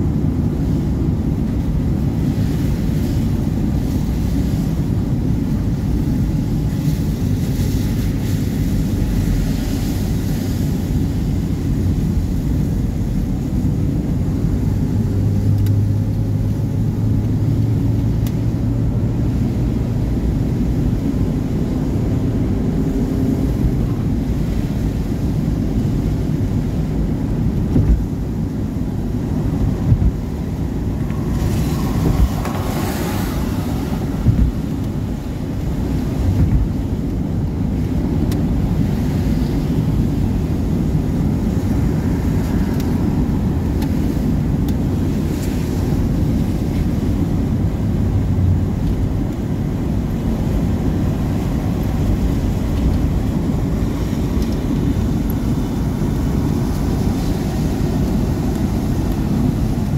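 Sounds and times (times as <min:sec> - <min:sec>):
wet road hiss: 0:01.8 - 0:59.9.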